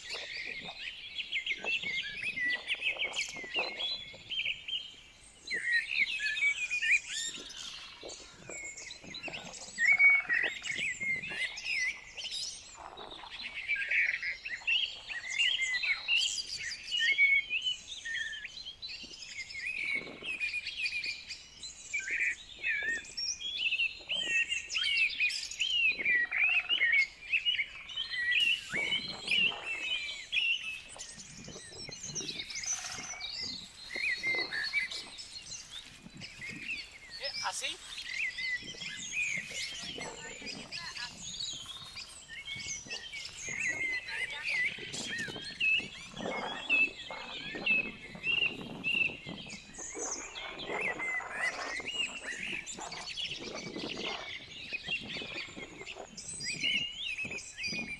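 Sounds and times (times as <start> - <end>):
songbirds chorus: 0.0 - 57.9.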